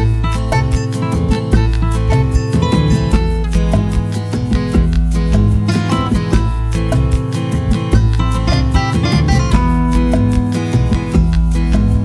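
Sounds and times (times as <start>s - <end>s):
plucked acoustic guitar music: 0.0s - 12.0s
steady bass line: 0.0s - 12.0s.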